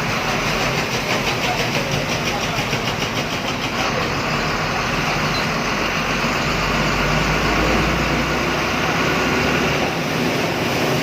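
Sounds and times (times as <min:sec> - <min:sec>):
bus engine running: 0:00.0 - 0:11.0
road and rattling noise: 0:00.0 - 0:11.0.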